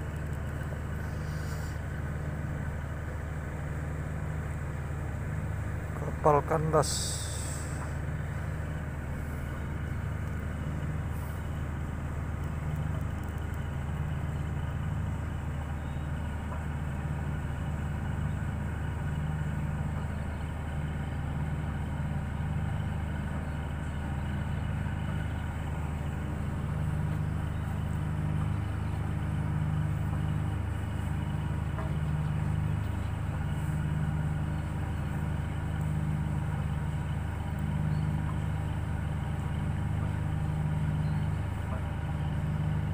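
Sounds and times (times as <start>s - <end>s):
boat engine drone: 0.0s - 42.9s.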